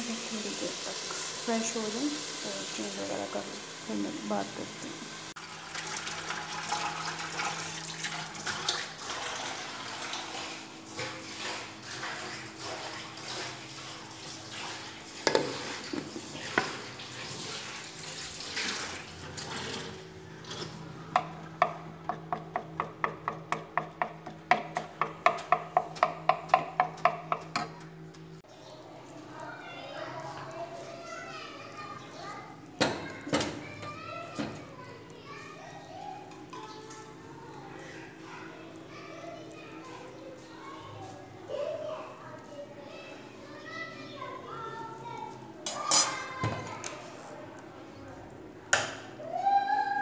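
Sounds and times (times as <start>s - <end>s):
liquid in a pan: 0.0s - 50.0s.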